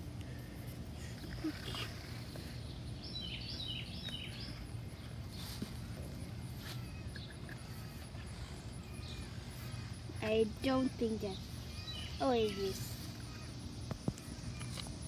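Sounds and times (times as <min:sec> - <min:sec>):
small bird chirping: 0:01.1 - 0:15.0.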